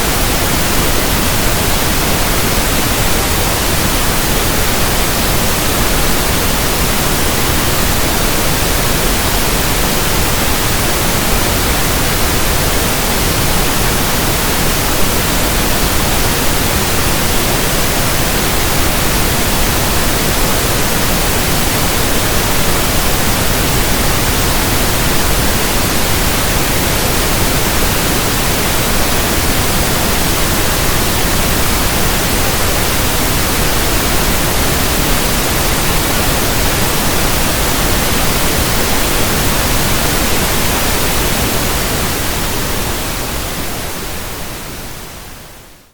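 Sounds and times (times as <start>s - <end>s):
pink noise hiss: 0.0s - 45.9s.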